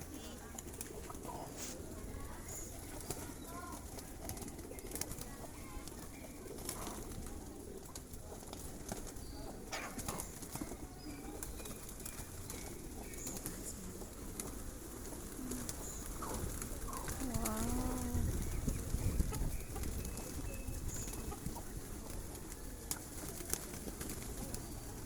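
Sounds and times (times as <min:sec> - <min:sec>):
pigeons cooing: 0:00.0 - 0:25.0
wings flapping: 0:00.0 - 0:25.0.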